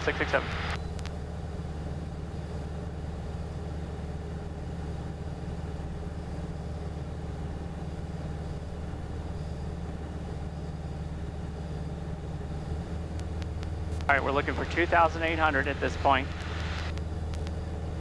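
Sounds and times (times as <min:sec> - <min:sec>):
plane engine and propeller drone: 0:00.0 - 0:18.0.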